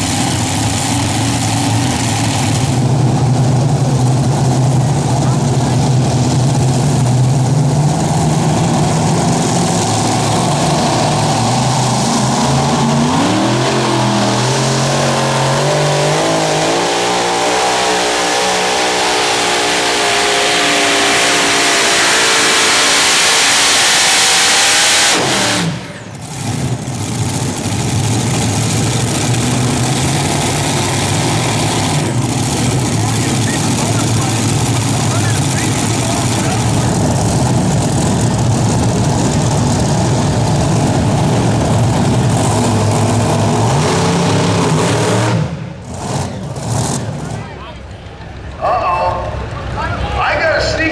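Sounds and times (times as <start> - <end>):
tractor engine revving: 0.0 - 50.9.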